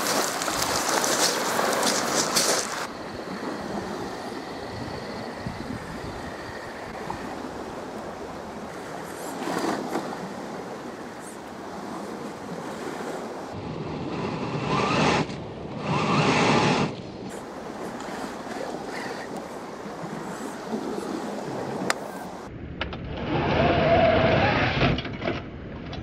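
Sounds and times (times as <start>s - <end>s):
waves washing: 0.0s - 22.5s
wind: 0.0s - 26.0s.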